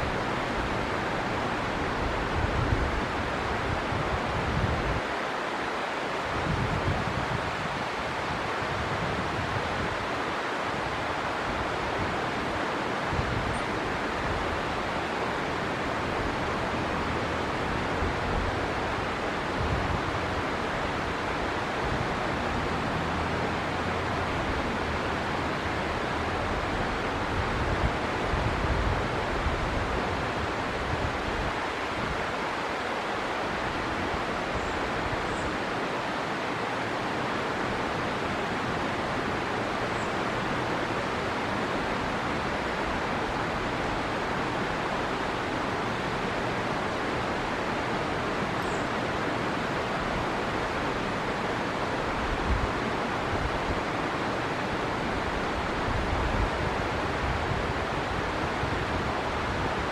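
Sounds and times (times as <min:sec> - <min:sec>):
wind on microphone: 0:00.0 - 0:05.3, 0:06.1 - 0:36.3, 0:37.1 - 0:59.9
river water flowing: 0:00.0 - 0:59.9.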